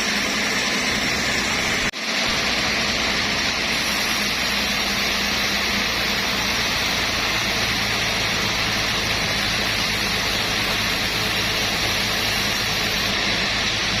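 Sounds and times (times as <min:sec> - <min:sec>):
engine hum: 0:00.0 - 0:14.0
hissing machine noise: 0:00.0 - 0:14.0.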